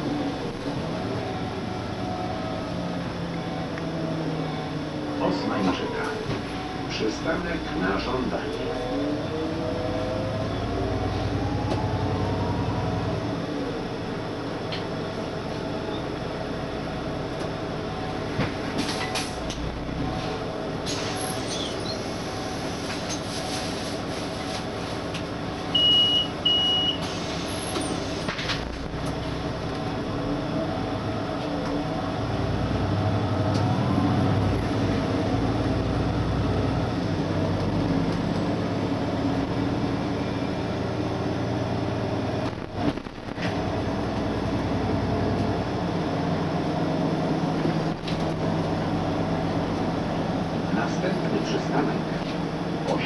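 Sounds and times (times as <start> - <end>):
bus engine drone: 0.0 - 53.0
road noise: 0.0 - 53.0.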